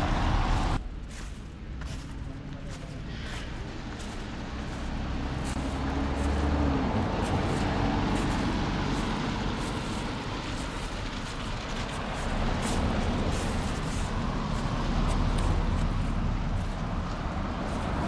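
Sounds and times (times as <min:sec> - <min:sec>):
motor vehicle passing by: 0:00.0 - 0:18.0.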